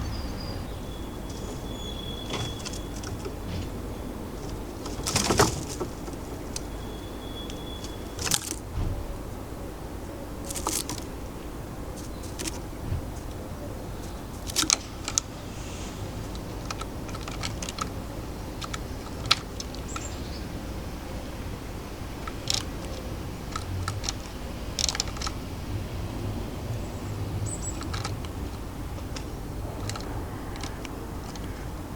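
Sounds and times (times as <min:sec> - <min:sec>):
birds tapping at feeder: 0:00.0 - 0:31.9.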